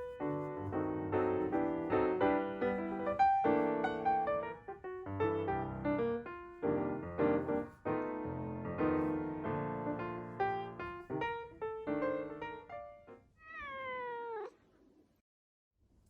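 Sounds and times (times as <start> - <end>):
gentle piano music: 0.0 - 13.4.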